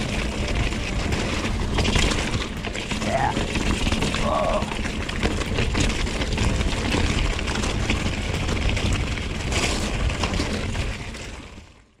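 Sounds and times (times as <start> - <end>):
tyres crunching on gravel: 0.0 - 11.6
wind rumble on microphone: 0.0 - 11.9.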